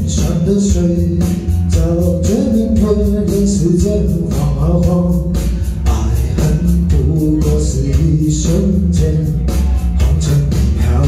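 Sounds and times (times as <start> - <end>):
backing music with guitar: 0.0 - 11.0
man singing into microphone: 0.0 - 11.0.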